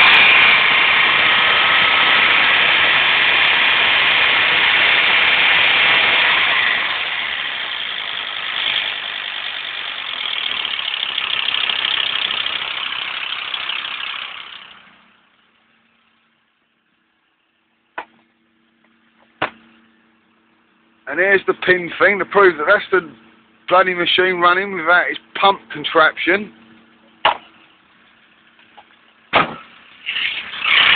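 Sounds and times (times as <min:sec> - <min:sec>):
van engine clattering: 0:00.0 - 0:15.0, 0:21.1 - 0:30.9.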